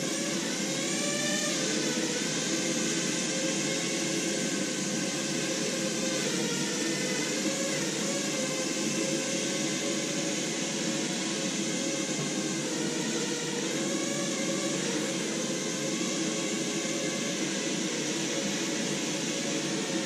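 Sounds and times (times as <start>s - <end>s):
drone propellers whirring: 0.0s - 20.0s.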